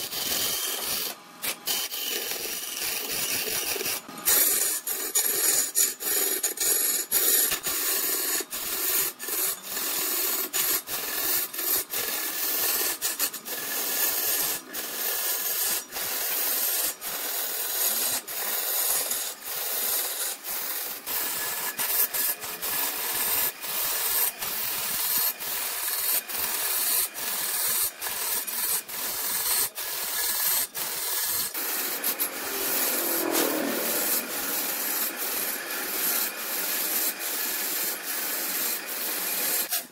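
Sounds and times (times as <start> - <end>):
tool scraping wood on lathe: 0.0 - 39.9.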